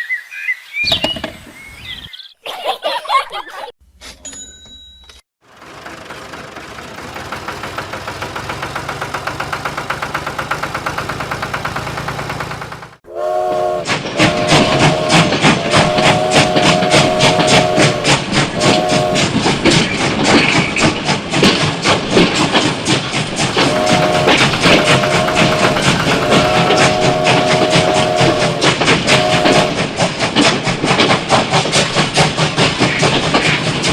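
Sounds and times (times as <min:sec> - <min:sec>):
steam locomotive chuffing: 0:05.4 - 0:33.9
wheels clattering: 0:05.5 - 0:13.0, 0:13.9 - 0:33.9.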